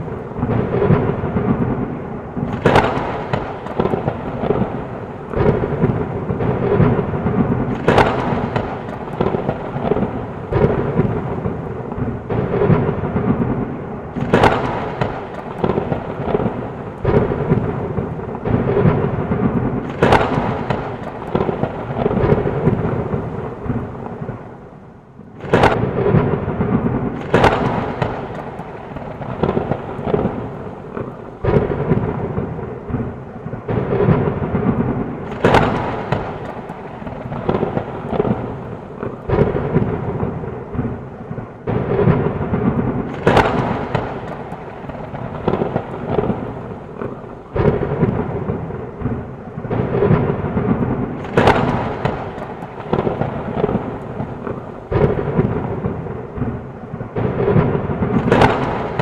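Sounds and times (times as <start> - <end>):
heavy rain: 0.0 - 59.0
sharp thunderclaps: 0.0 - 59.0
thunder rumbling: 0.0 - 59.0.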